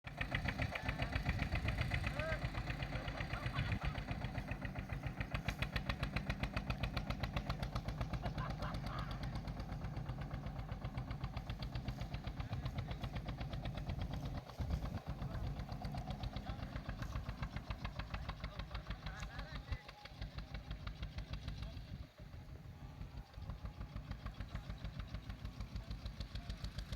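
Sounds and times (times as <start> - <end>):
tractor engine chugging: 0.1 - 26.9.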